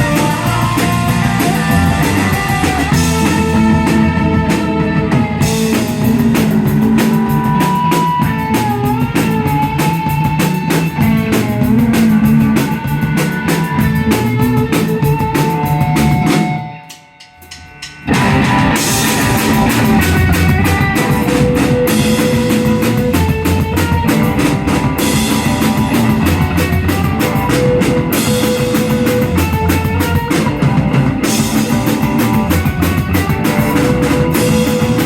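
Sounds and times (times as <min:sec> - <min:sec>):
rock music: 0:00.0 - 0:35.0.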